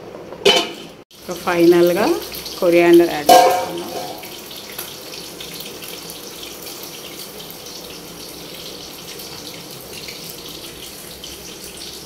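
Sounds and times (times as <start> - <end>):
stove burner hissing: 0.0 - 12.0.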